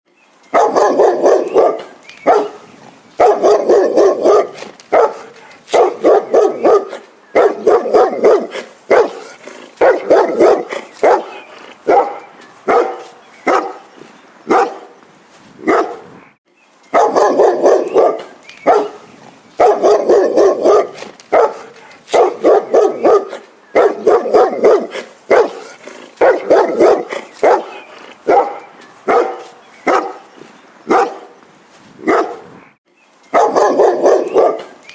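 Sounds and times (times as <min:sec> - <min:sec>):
dog barking: 0:00.5 - 0:02.6, 0:03.2 - 0:13.9, 0:14.5 - 0:15.0, 0:15.6 - 0:16.1, 0:16.9 - 0:19.0, 0:19.6 - 0:30.3, 0:30.9 - 0:31.4, 0:32.0 - 0:32.5, 0:33.3 - 0:34.9.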